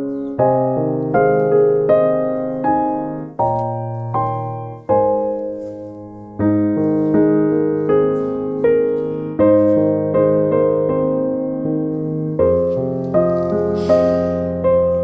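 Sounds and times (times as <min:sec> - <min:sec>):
gentle electric piano chords: 0:00.0 - 0:15.0.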